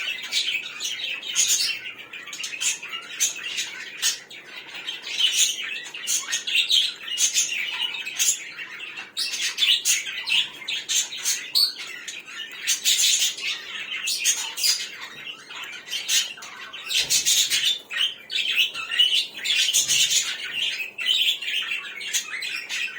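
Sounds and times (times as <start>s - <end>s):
budgerigars and finches chirping: 0.0s - 22.9s.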